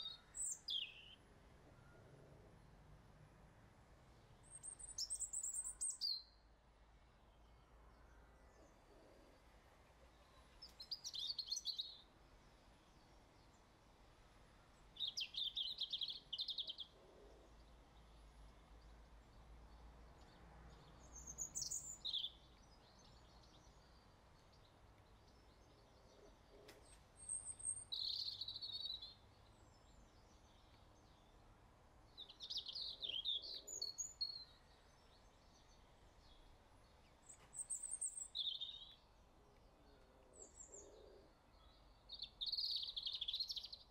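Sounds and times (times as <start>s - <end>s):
small bird singing faintly: 0.0s - 2.8s, 4.3s - 13.8s, 14.6s - 43.9s.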